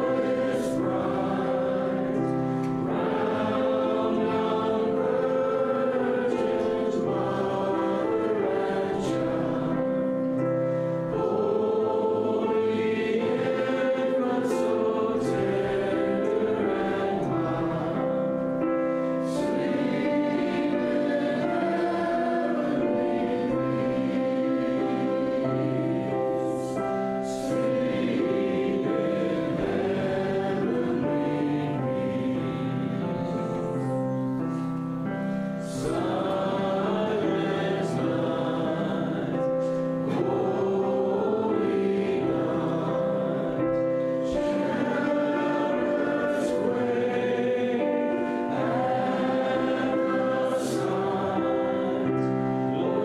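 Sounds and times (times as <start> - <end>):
congregation singing a hymn: 0.0 - 53.0.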